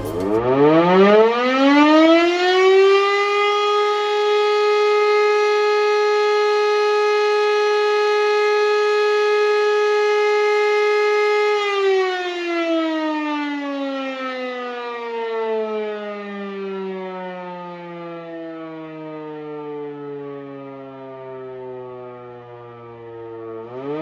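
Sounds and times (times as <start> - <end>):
electro-mechanical siren winding down: 0.0 - 24.0.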